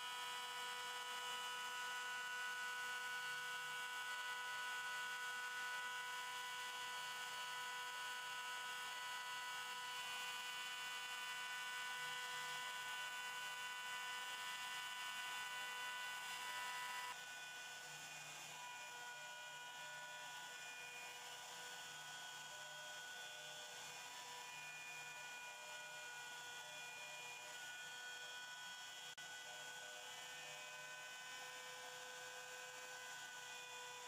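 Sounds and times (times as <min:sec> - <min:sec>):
cnc machine whining: 0:00.0 - 0:34.0.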